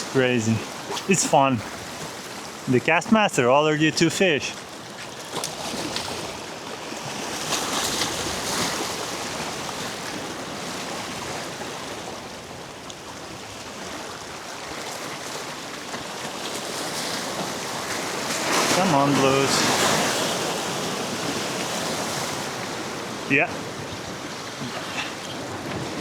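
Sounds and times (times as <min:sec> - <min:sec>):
surf washing against rocks: 0:00.0 - 0:26.0.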